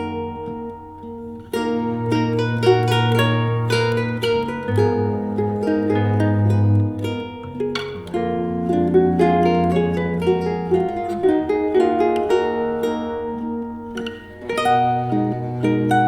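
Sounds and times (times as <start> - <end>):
fingerstyle acoustic guitar: 0.0 - 16.0.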